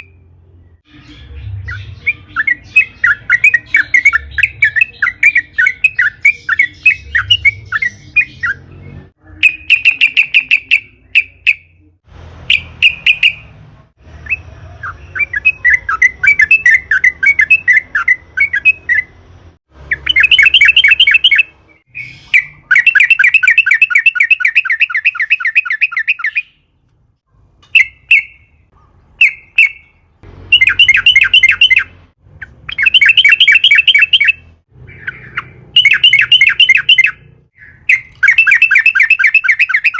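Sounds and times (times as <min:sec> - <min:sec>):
bulbul singing: 0:00.0 - 0:19.2, 0:19.8 - 0:26.8, 0:27.6 - 0:39.9.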